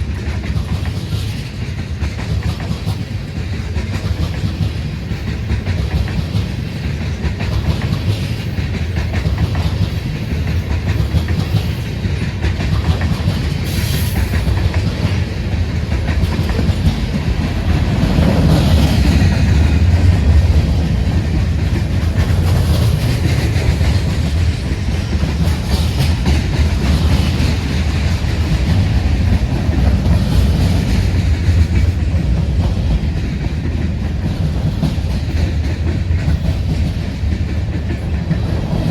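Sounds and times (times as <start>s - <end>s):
train wheels clickety-clack: 0.0s - 38.9s.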